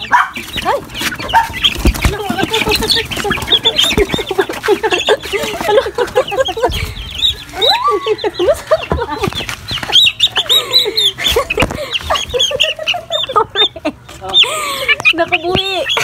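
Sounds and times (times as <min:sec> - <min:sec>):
chicks peeping: 0:00.0 - 0:16.0
hens clucking and squawking: 0:00.0 - 0:16.0.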